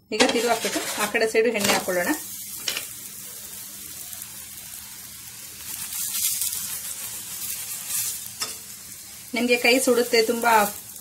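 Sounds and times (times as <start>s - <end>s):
flatbread sizzling on a hot griddle: 0.2s - 11.0s.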